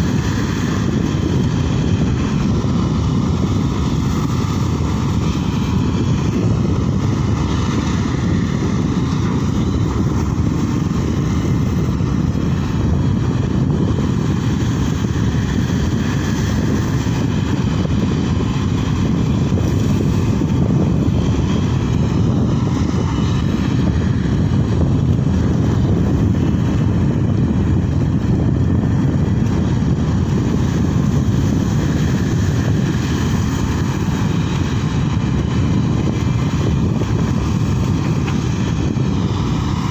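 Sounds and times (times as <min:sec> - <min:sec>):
excavator diesel engine droning: 0:00.0 - 0:39.9
hydraulic whine: 0:00.0 - 0:39.9.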